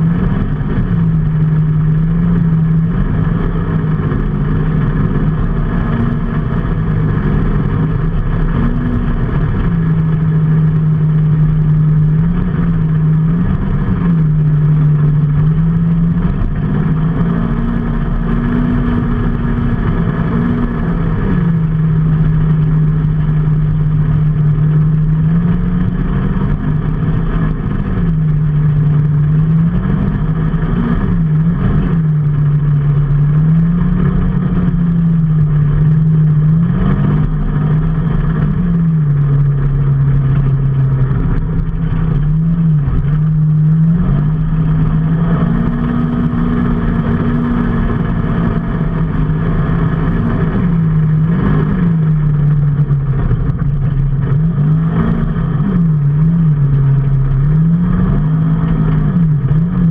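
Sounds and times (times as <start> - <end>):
steady rushing noise: 0.0 - 59.9
vehicle engine running: 0.0 - 59.9.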